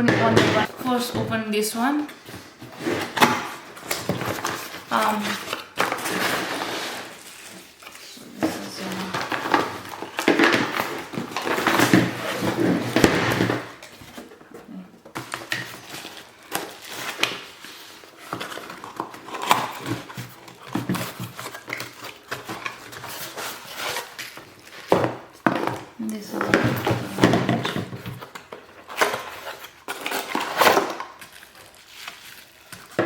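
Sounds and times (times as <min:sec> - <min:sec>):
packaging rustling and scraping: 0:00.3 - 0:33.0.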